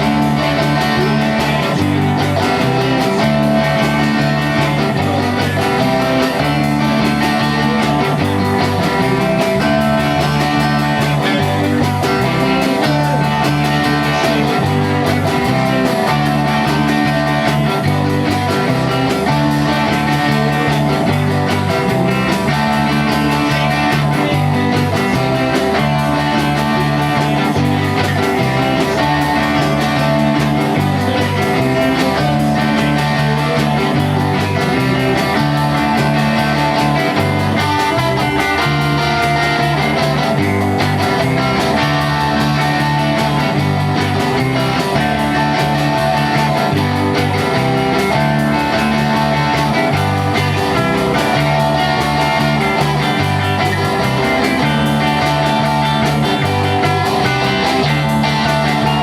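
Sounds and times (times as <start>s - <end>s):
bass line: 0.0s - 59.0s
electric guitar: 0.0s - 59.0s.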